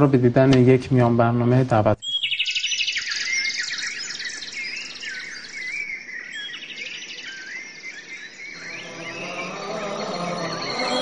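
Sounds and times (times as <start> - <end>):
birds chirping and trilling: 1.5 - 11.0
swooping whistled bird notes: 2.0 - 11.0.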